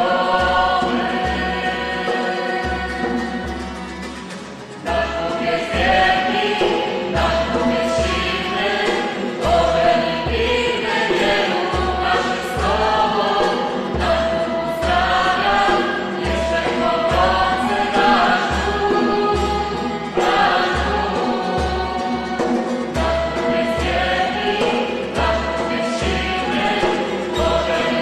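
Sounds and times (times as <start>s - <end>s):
group singing religious song: 0.0s - 28.0s
instrumental accompaniment: 0.0s - 28.0s.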